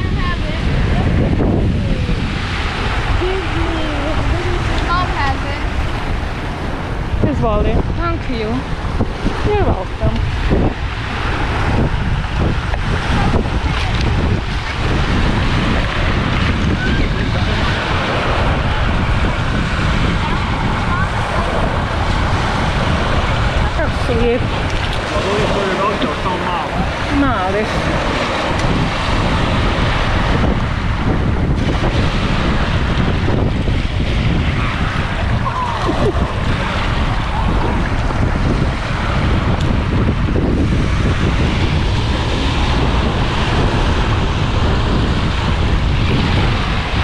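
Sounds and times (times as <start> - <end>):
waves washing onto pebbles: 0.0 - 7.2, 7.8 - 47.0
wind noise on microphone: 0.0 - 47.0.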